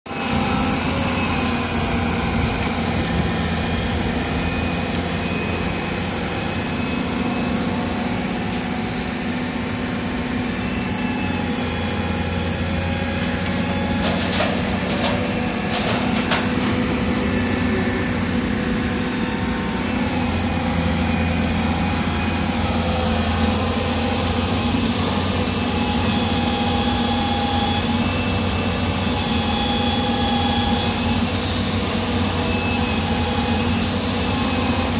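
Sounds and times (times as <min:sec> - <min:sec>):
heavy diesel engine running: 0:00.1 - 0:34.9.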